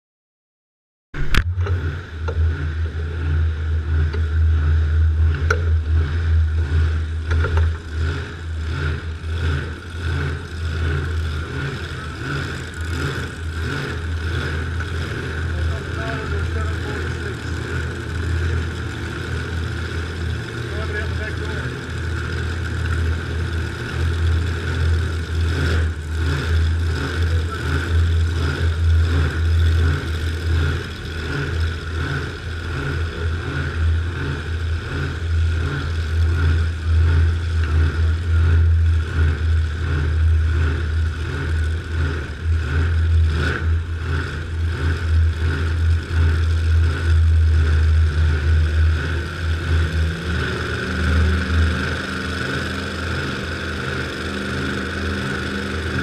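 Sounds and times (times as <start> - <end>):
car engine cranking: 1.2 - 56.0.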